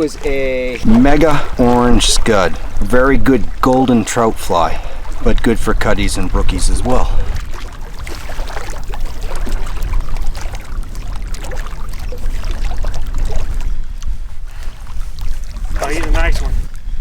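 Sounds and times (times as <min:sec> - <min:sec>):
water splashing and sloshing: 0:00.0 - 0:17.0
wind buffeting microphone: 0:00.0 - 0:17.0.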